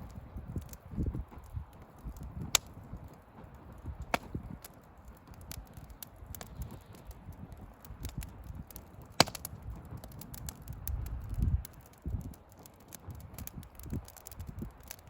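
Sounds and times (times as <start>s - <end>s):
bonfire crackling: 0.0s - 15.0s
sharp pops from burning wood: 0.0s - 15.0s.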